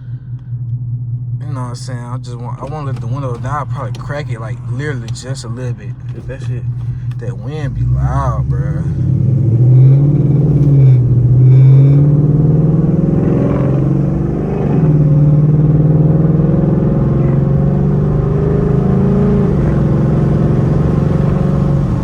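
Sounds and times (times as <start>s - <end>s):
car engine and exhaust: 0.0s - 22.0s.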